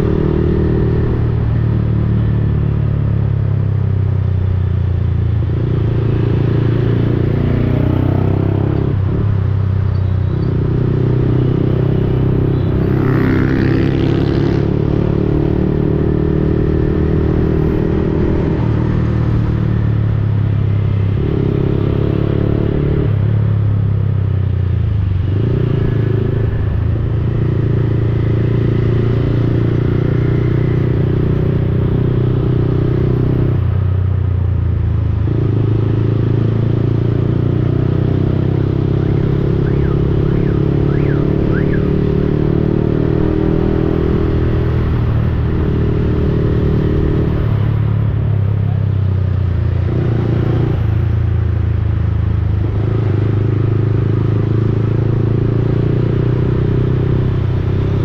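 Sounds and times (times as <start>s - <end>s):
motorcycle engine revving: 0.0s - 2.9s, 4.3s - 33.8s, 35.0s - 58.0s.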